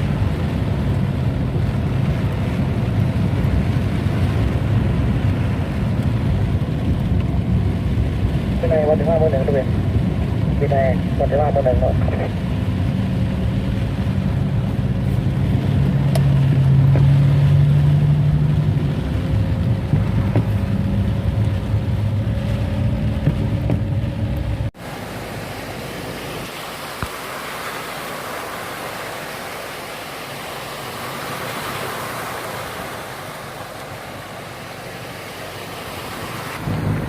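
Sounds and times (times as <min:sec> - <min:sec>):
motor engine humming: 0:00.0 - 0:27.4, 0:28.3 - 0:37.0
rushing floodwater: 0:00.0 - 0:37.0.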